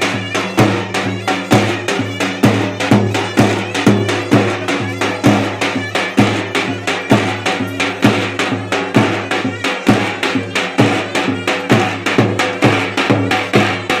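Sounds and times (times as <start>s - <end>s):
folk dance tune: 0.0s - 14.0s
heavy drum beat: 0.0s - 14.0s.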